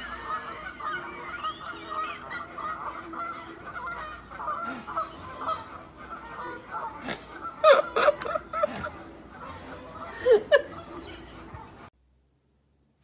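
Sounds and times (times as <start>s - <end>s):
honking bird calls: 0.0s - 11.7s.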